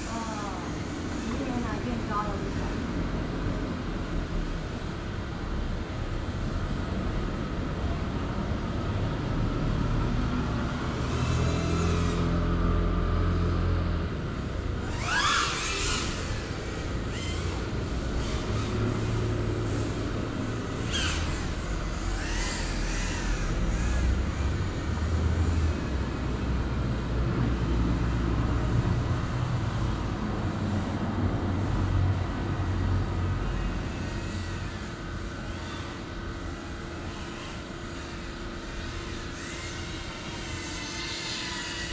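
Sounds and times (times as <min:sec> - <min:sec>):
drone propellers whining: 0:00.0 - 0:41.9.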